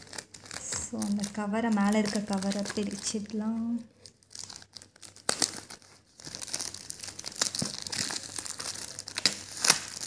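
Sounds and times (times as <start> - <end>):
plastic shrink-wrap crinkling: 0.0 - 10.0.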